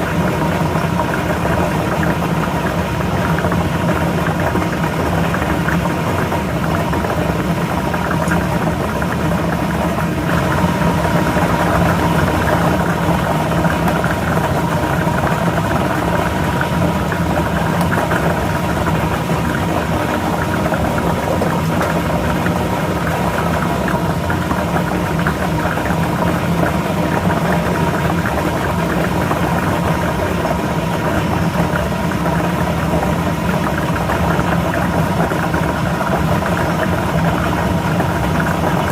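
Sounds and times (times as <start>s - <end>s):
motor hum: 0.0s - 38.9s.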